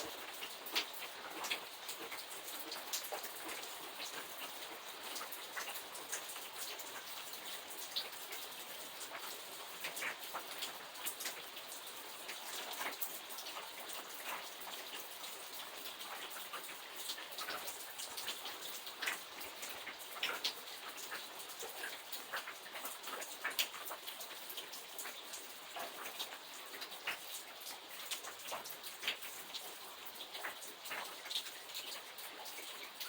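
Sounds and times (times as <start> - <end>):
rain falling: 0.0 - 33.0
raindrops ticking on surface: 0.0 - 33.0.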